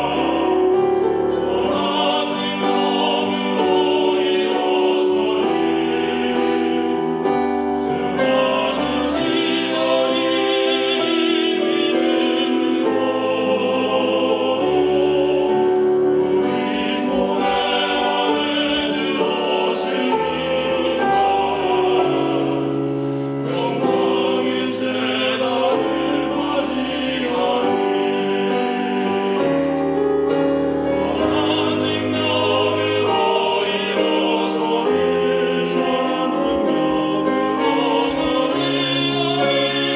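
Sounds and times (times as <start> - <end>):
vocal trio singing in harmony: 0.0 - 39.9.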